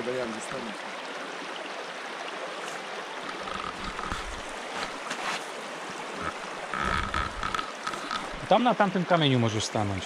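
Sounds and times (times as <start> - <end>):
stream flowing over rocks: 0.0 - 10.0.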